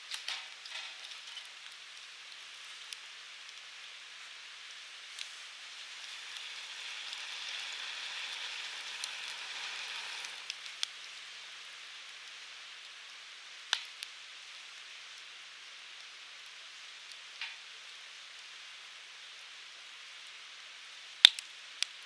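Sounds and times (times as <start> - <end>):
fire crackles and pops: 0.0 - 22.0
firewood burning with hissing: 0.0 - 22.0.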